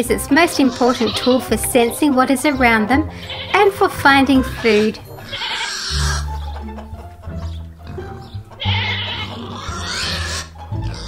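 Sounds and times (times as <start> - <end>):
background music with bass line: 0.0 - 11.0.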